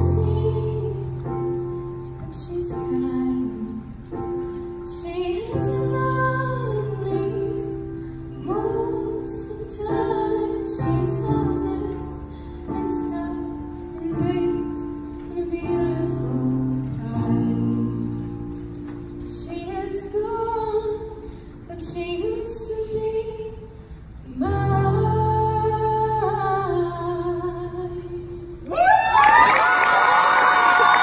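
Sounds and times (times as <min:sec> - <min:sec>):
woman singing a slow ballad: 0:00.0 - 0:04.2, 0:04.8 - 0:18.6, 0:19.2 - 0:28.9.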